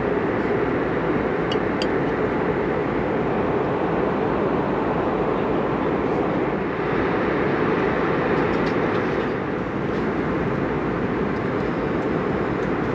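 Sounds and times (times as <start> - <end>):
airliner cabin engine and airflow noise: 0.0 - 12.9.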